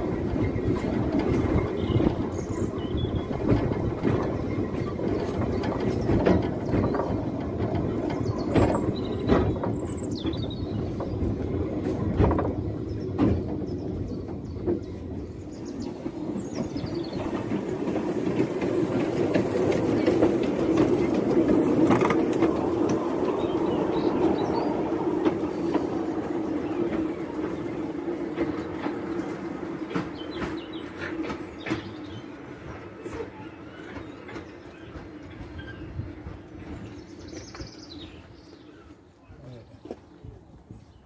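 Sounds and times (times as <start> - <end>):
train wheels clacking on rail joints: 0.0 - 39.1
steam locomotive rumbling past: 0.0 - 41.0.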